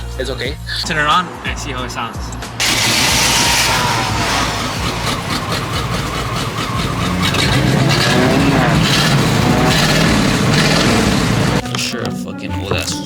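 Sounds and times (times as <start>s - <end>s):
truck engine revving: 0.0s - 11.6s.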